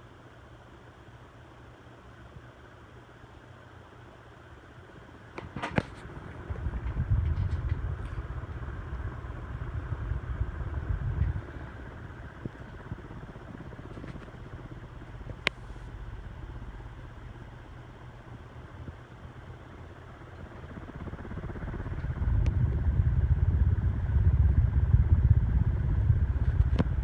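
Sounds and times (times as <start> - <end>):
ceiling fan rumbling: 0.0 - 27.0.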